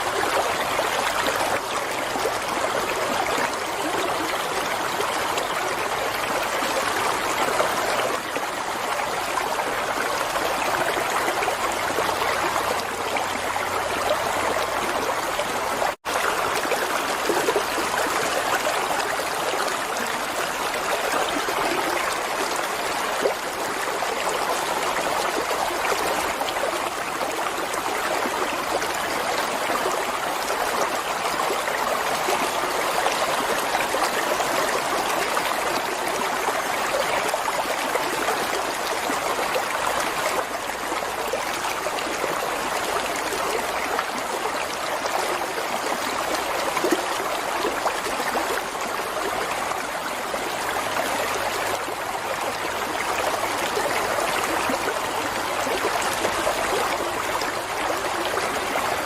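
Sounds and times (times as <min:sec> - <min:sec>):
water flowing: 0:00.0 - 0:59.0.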